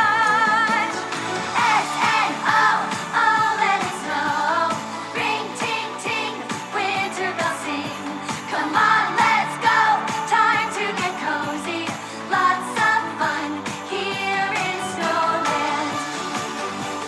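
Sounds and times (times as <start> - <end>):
pop song with singing: 0.0 - 17.0.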